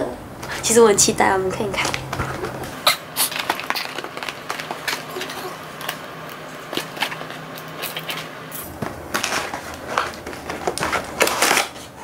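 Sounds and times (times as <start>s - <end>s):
packaging rustling: 1.8s - 12.0s.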